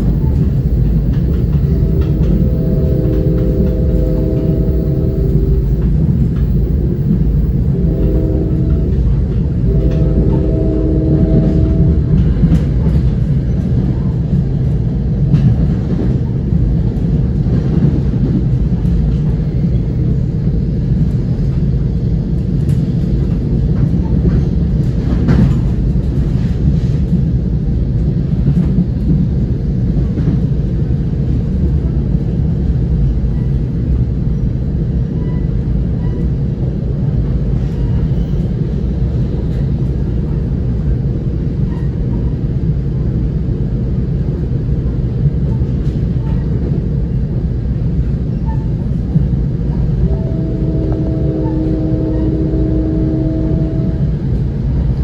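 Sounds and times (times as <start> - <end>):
train coach rumbling on rails: 0.0 - 55.0.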